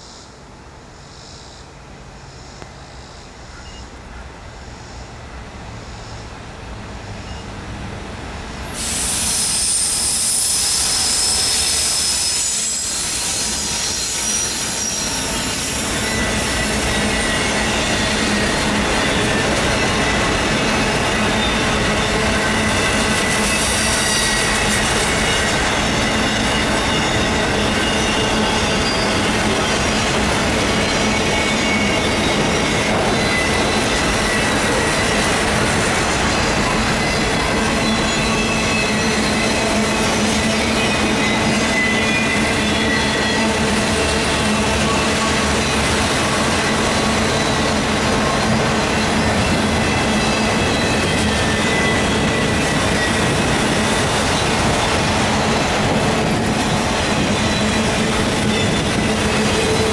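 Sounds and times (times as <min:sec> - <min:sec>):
diesel locomotive engines: 0:00.2 - 0:59.9
high wheel squealing: 0:08.6 - 0:59.9.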